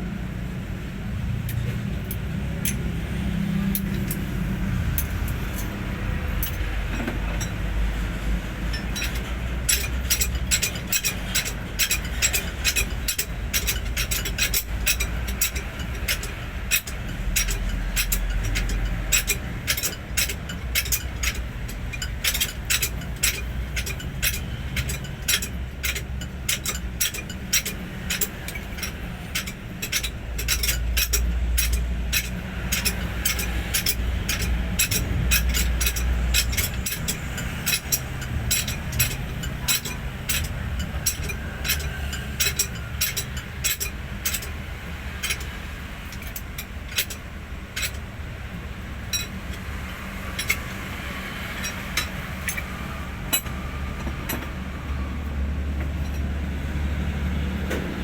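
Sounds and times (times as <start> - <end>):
steel tools clinking on metal: 1.5 - 3.0, 3.6 - 48.2, 48.8 - 56.3.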